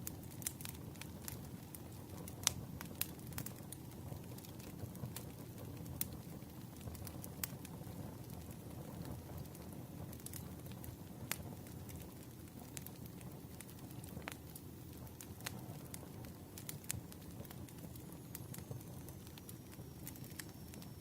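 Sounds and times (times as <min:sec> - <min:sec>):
campfire flames rumbling: 0:00.0 - 0:21.0
fire crackles and pops: 0:00.0 - 0:21.0.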